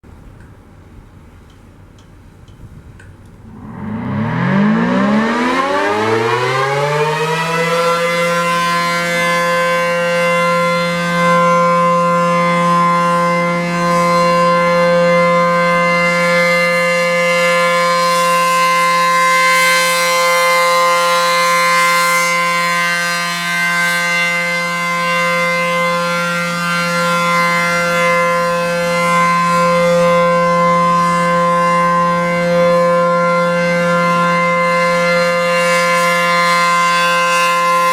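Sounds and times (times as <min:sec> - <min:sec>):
warning siren winding up: 0:03.4 - 0:37.9.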